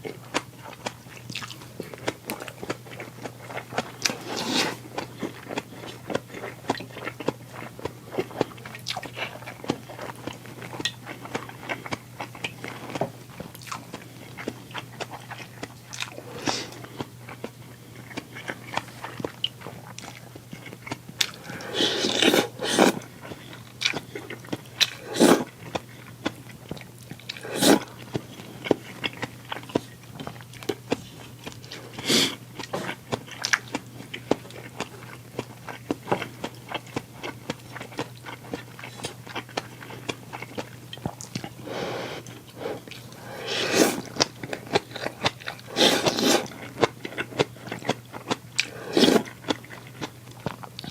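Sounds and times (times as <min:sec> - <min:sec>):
person chewing and crunching: 0:00.0 - 0:50.9.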